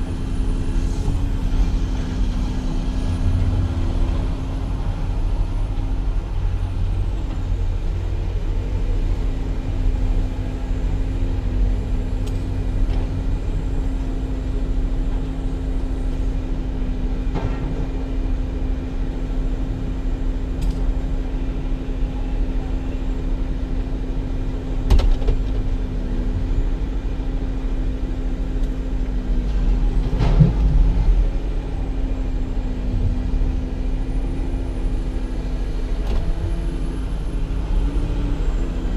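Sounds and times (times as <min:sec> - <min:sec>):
vehicle engine humming: 0:00.0 - 0:38.9.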